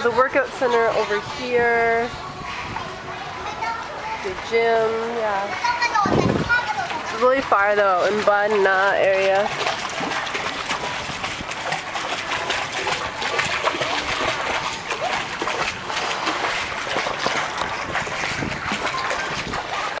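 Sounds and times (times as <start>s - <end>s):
pool water splashing: 0.0s - 20.0s
swimmer doing front crawl: 0.0s - 20.0s.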